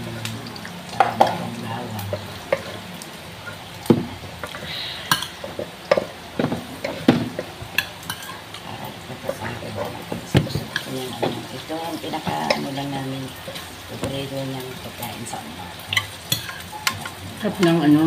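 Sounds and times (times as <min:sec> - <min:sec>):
garlic sizzling in oil: 0:00.0 - 0:18.0.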